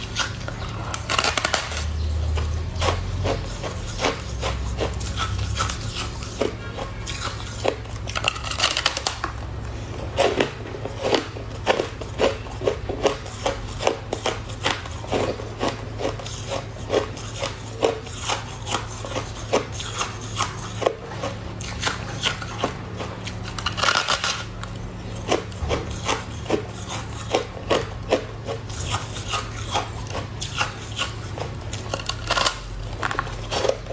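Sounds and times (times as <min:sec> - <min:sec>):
frost being chewed: 0:00.0 - 0:33.9
steady low hum: 0:00.0 - 0:33.9.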